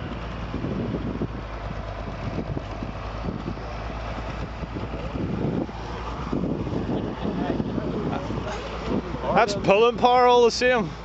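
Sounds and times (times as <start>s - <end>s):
wind on microphone: 0.0s - 10.1s
tractor diesel engine running: 0.0s - 11.0s.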